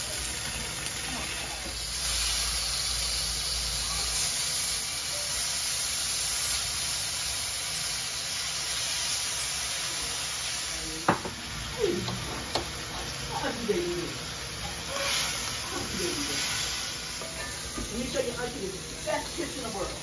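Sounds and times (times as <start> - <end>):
asparagus sizzling in a pan: 0.0 - 20.0.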